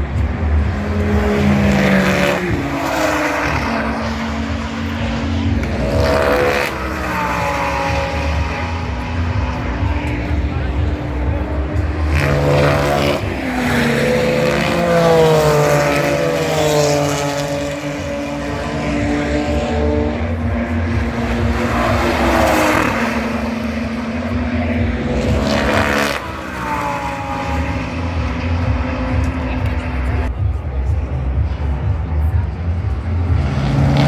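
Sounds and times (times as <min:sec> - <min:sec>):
race car engines running hard: 0:00.0 - 0:34.0.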